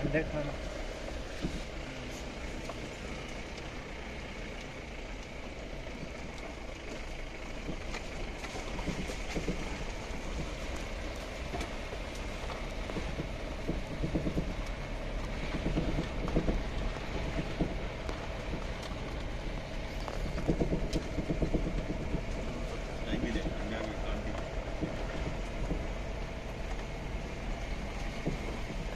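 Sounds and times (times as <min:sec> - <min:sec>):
engine and road rumble: 0:00.0 - 0:28.9
rattles and knocks: 0:00.0 - 0:28.9.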